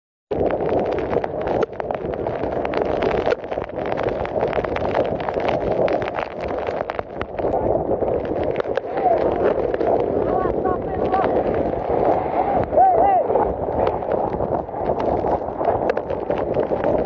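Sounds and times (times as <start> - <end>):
heavy rain knocking and pattering: 0.3 - 17.0
violent wind on microphone: 0.3 - 17.0.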